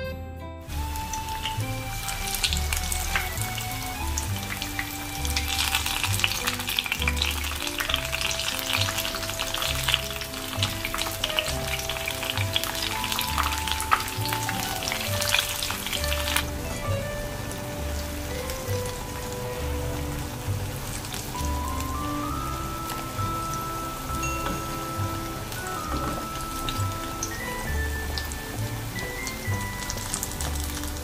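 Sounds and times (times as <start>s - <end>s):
oil sizzling in deep-frying: 0.6s - 31.0s.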